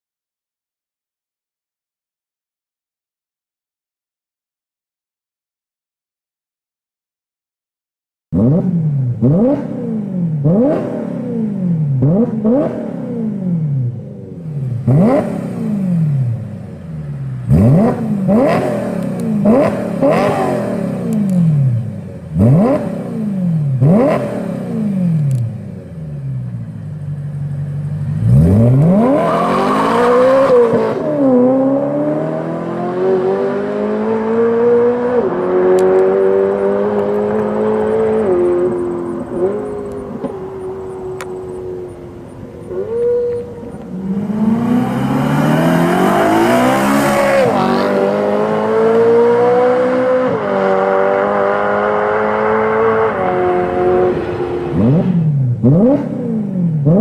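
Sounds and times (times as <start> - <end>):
car engine revving: 8.3 - 57.0
car accelerating away: 8.4 - 57.0.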